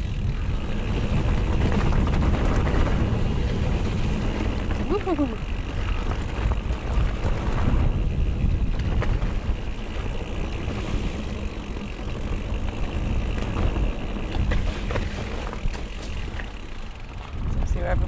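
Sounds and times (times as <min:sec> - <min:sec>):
bike tyres and frame rattling: 0:00.0 - 0:18.0
wind rushing across microphone: 0:00.0 - 0:18.0.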